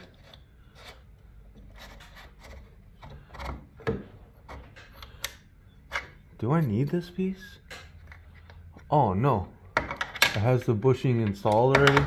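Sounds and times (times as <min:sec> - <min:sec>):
clicks and rubbing of parts: 0:00.0 - 0:09.0, 0:09.7 - 0:12.0.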